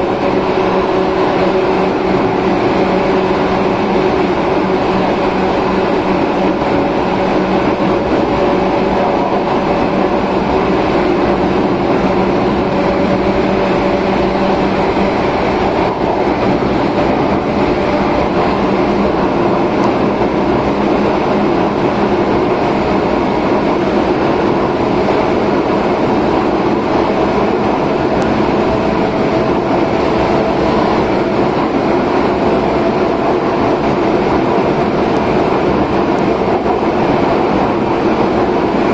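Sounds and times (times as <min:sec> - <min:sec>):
low multi-tone drive hum: 0:00.0 - 0:38.9
train rolling rumble: 0:00.0 - 0:38.9.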